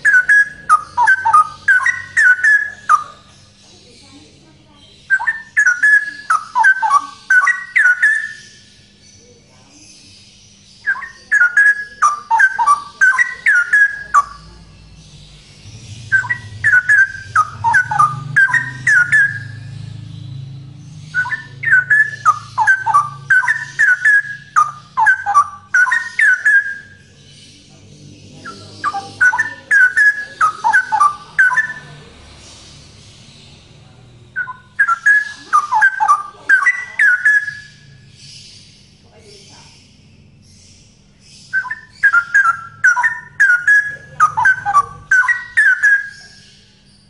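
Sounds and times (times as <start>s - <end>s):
bird singing falling notes: 0.0s - 9.3s, 10.0s - 33.8s, 34.4s - 39.0s, 40.2s - 47.0s.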